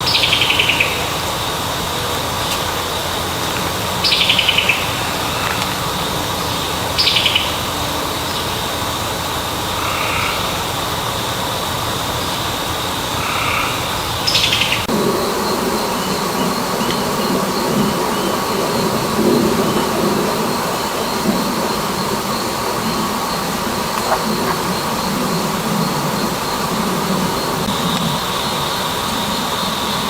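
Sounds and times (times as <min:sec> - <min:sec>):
soft bird calls: 0:00.0 - 0:30.0
steady hiss with high tone: 0:00.0 - 0:30.0.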